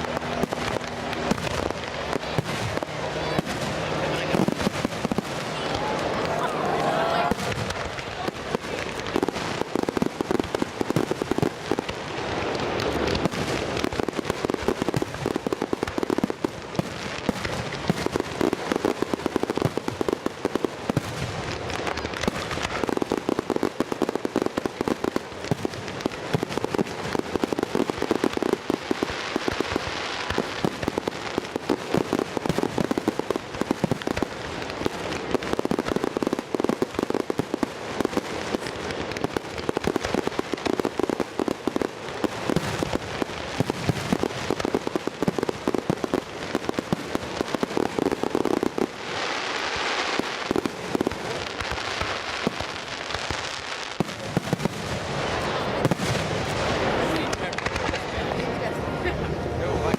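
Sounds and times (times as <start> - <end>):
fireworks crackling and popping: 0.0 - 59.9.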